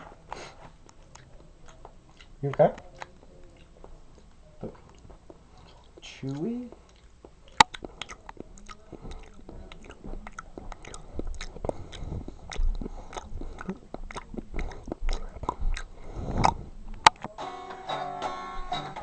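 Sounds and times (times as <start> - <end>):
person chewing loudly: 0.4 - 17.4.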